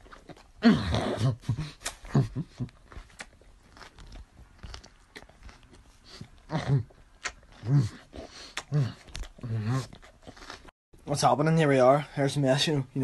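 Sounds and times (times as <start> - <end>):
crunchy chewing: 0.0 - 10.7.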